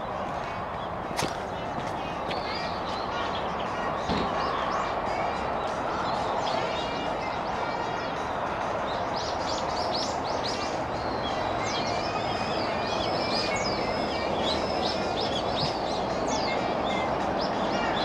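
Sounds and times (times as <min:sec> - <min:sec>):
small birds chirping and twittering: 0:00.0 - 0:18.0.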